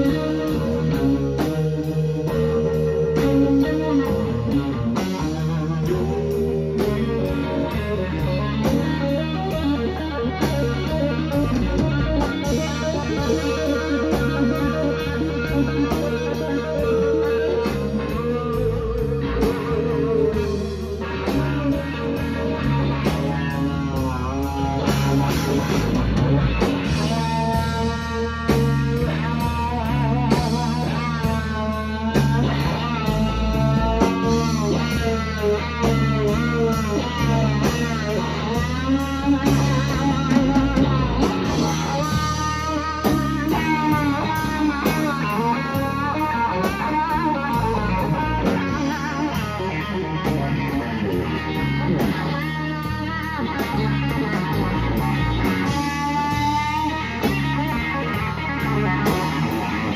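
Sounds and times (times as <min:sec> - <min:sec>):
bass guitar: 0:00.0 - 0:59.9
drum kit: 0:00.0 - 0:59.9
electric guitar solo with bent notes: 0:00.0 - 0:59.9.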